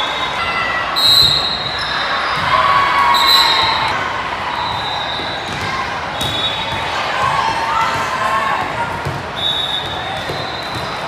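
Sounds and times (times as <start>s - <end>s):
hall hubbub: 0.0s - 11.0s
sneakers squeaking on gym floor: 1.0s - 8.0s, 9.0s - 11.0s.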